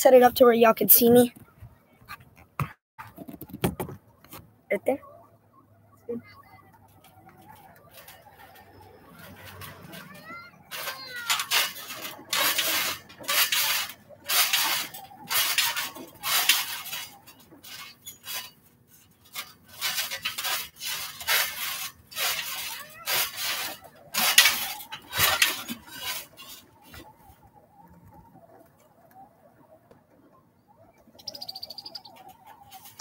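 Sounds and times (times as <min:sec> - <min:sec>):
trampoline springs creaking: 0:02.1 - 0:05.2, 0:05.8 - 0:33.0.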